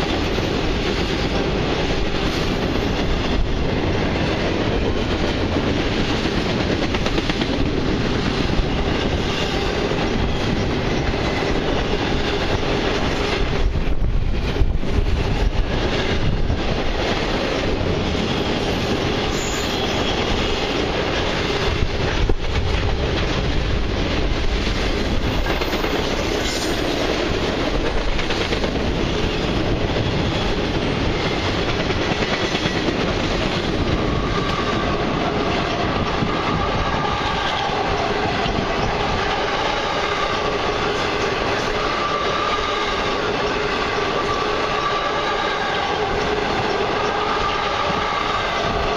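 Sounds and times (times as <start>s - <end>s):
freight train wheels clicking: 0.0s - 48.9s.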